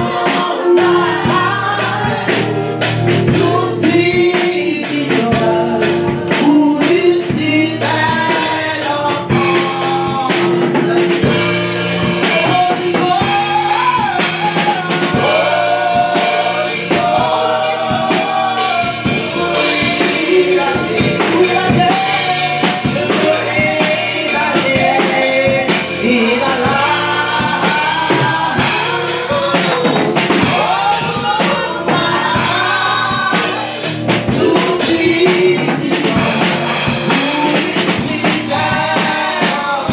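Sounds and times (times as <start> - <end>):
band with drum kit: 0.0 - 39.9
women singing gospel: 0.0 - 39.9.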